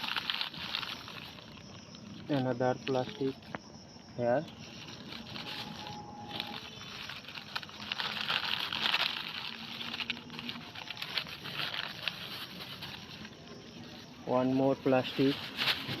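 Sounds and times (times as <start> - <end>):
plastic crinkling and rustling: 0.0 - 3.6, 4.4 - 16.0.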